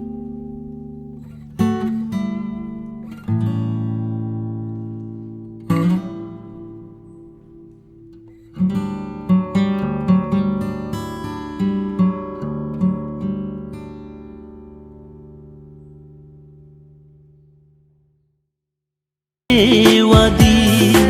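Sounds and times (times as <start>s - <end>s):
acoustic guitar strumming: 0.0s - 17.9s, 19.5s - 21.0s.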